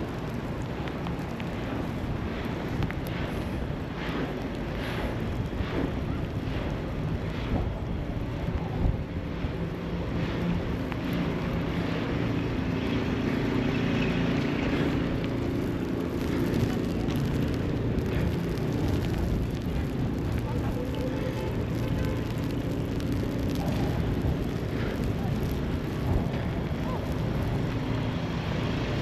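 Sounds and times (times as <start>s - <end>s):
traffic rumble: 0.0s - 29.0s
vehicle engine hum: 0.0s - 29.0s.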